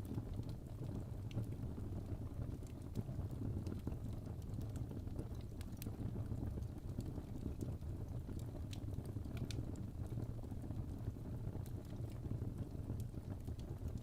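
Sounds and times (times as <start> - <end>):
fire rumbling: 0.0 - 14.0
logs crackling and popping: 0.0 - 14.0.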